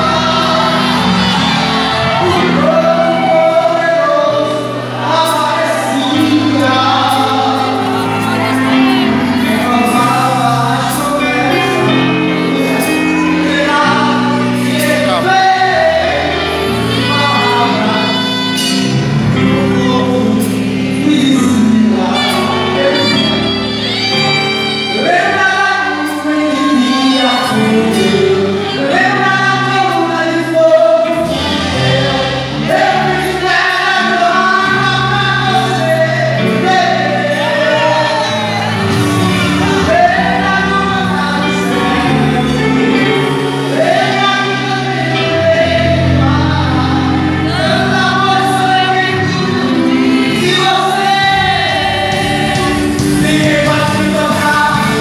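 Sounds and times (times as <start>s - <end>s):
held bass notes: 0.0s - 55.0s
keyboard and band accompaniment: 0.0s - 55.0s
several voices singing: 0.0s - 55.0s.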